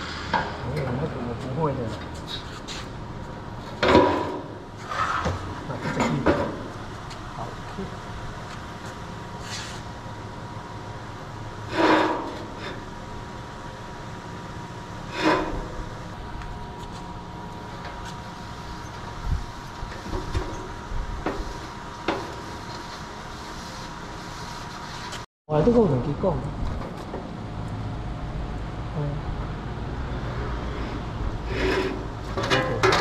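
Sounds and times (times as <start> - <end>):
steady hum with high tone: 0.0 - 33.0.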